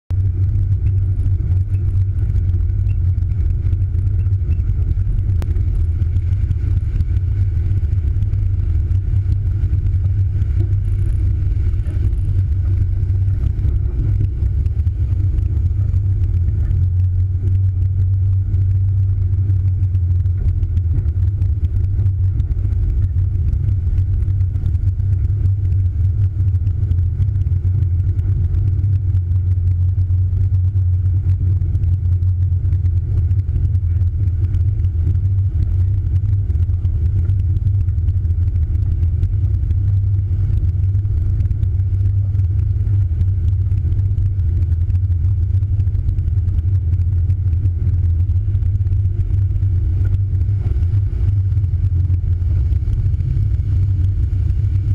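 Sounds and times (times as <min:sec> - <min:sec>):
vehicle engine droning: 0:00.0 - 0:54.9.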